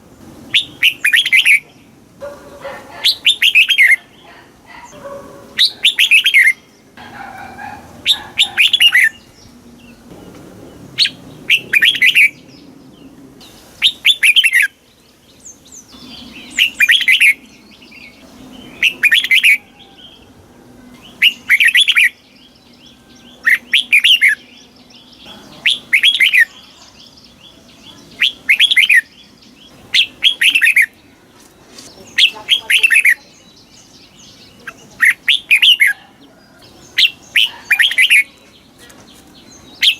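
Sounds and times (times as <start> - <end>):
bulbul warbling song: 0.4 - 39.9.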